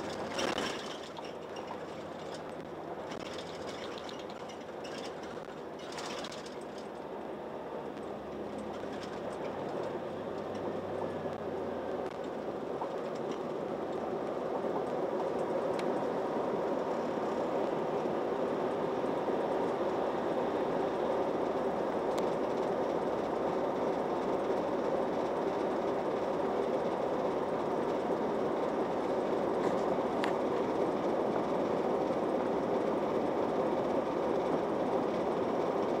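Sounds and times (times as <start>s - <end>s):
bus engine running: 0.0s - 36.0s.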